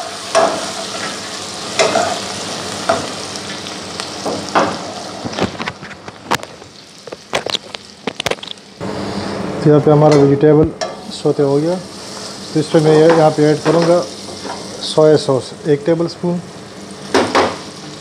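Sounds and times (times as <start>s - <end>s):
vegetables sizzling in oil: 0.0s - 9.2s, 10.8s - 18.0s.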